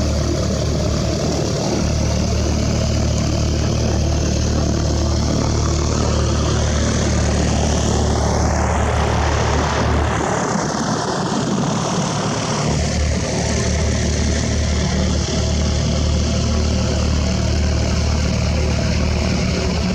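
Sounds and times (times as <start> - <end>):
propeller airplane engine passing: 0.0 - 19.9.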